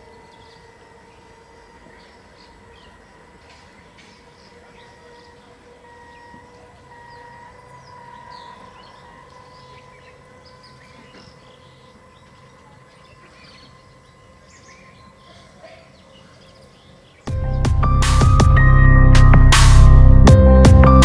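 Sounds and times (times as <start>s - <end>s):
faint steady hum: 0.0s - 17.5s
birds chirping: 0.0s - 21.0s.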